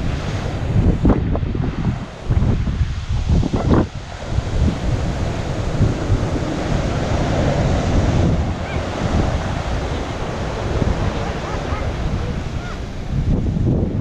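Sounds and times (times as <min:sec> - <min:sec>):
ocean surf breaking: 0:00.0 - 0:14.0
strong wind rumbling on microphone: 0:00.0 - 0:14.0.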